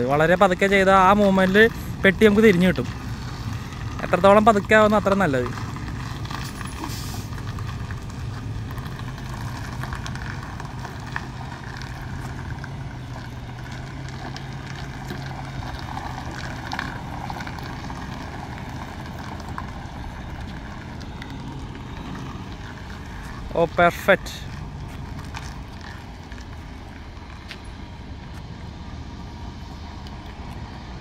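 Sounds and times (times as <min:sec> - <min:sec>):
truck diesel engine at low revs: 0:00.0 - 0:31.0.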